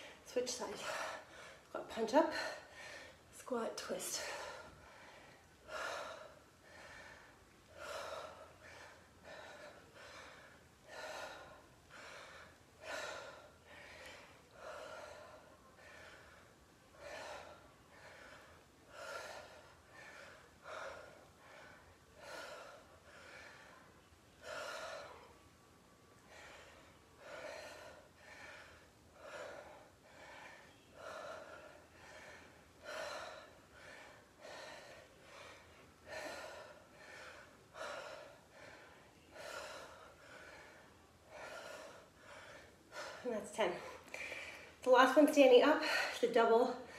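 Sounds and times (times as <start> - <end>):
woman breathing hard: 0.0 - 3.4, 4.1 - 44.9.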